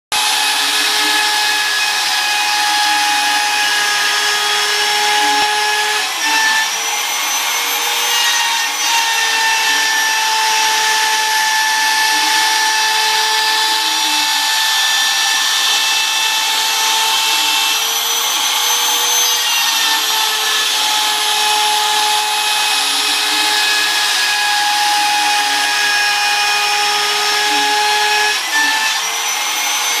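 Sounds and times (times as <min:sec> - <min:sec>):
router spindle whining: 0:00.1 - 0:30.0.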